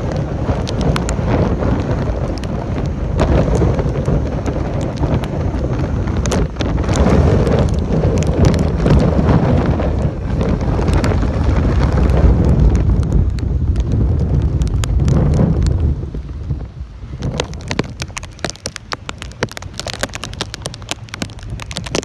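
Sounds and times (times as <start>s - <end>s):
gusty wind buffeting microphone: 0.0s - 22.0s
sharp crackles: 0.0s - 22.0s.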